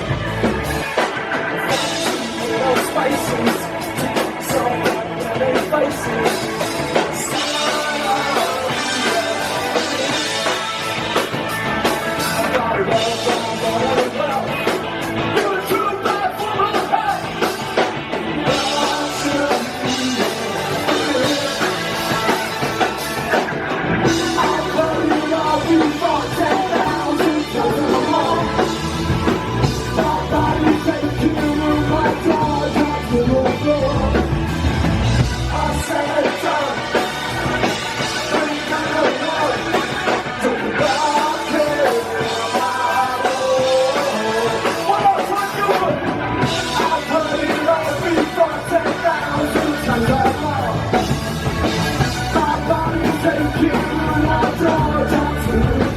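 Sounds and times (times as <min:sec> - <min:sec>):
punk rock band playing live: 0:00.0 - 0:55.9
person singing: 0:01.7 - 0:11.3, 0:12.2 - 0:23.3, 0:24.0 - 0:34.6, 0:35.2 - 0:55.9.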